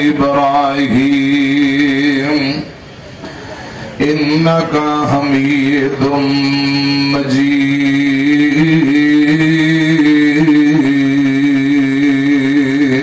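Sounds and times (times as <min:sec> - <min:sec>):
man chanting melodically: 0:00.0 - 0:02.8, 0:04.0 - 0:13.0.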